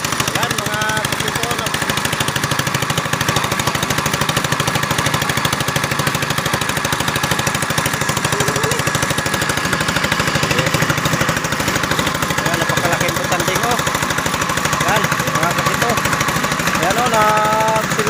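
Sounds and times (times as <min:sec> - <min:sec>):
boat engine puttering: 0:00.0 - 0:18.0.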